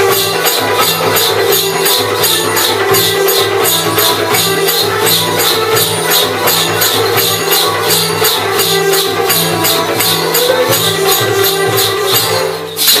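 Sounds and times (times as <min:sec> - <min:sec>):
jingling metal percussion: 0:00.0 - 0:13.0.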